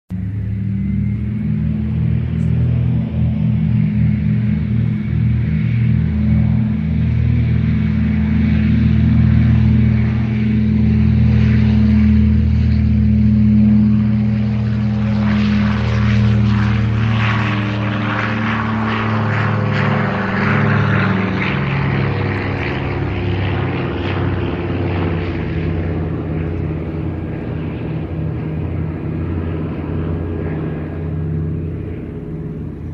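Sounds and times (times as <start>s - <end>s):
propeller plane engines droning: 0.1s - 32.9s.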